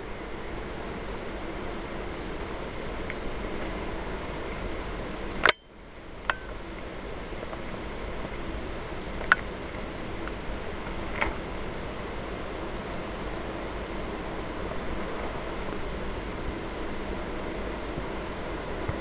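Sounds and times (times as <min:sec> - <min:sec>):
camcorder background hiss: 0:00.0 - 0:19.0.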